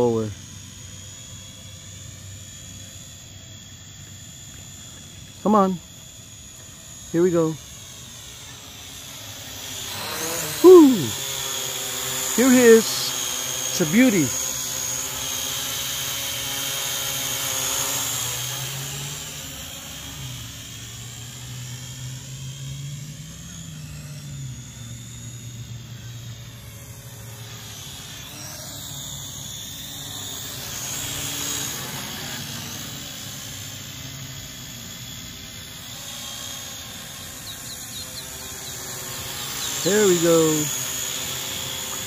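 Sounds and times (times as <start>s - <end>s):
drone propellers buzzing: 0.0s - 42.0s.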